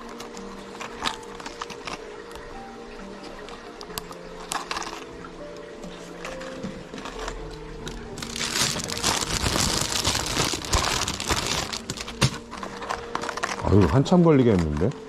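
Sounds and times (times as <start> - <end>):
plastic packaging crinkling: 0.0 - 2.5, 3.4 - 15.0.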